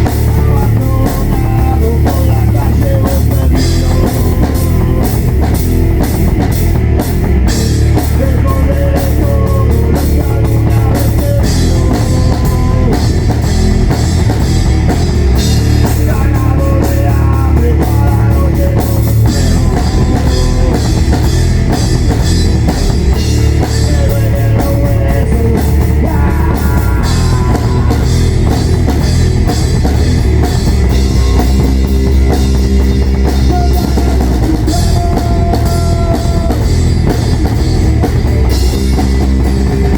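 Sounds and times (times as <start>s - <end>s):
drum kit and cymbals: 0.0s - 39.9s
rock band playing heavy song: 0.0s - 39.9s.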